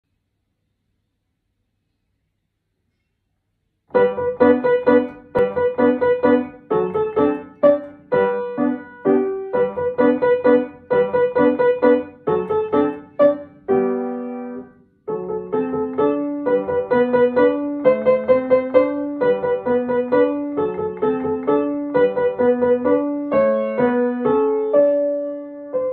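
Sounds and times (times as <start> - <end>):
upright piano playing detached notes: 3.9 - 25.9.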